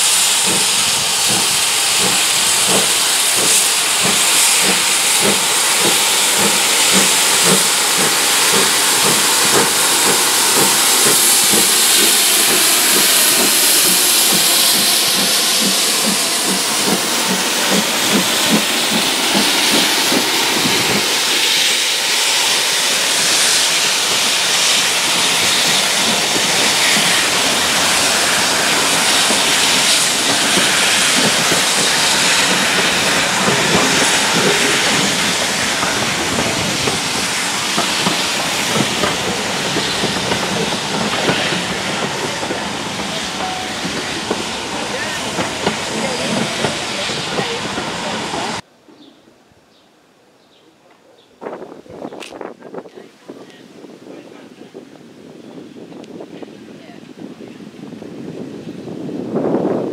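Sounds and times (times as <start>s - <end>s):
steam hissing: 0.0s - 48.6s
steam locomotive exhaust beats: 0.0s - 48.7s.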